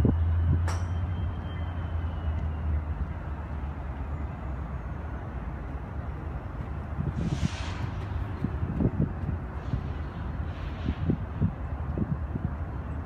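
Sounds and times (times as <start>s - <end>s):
distant engine rumble: 0.0s - 13.0s.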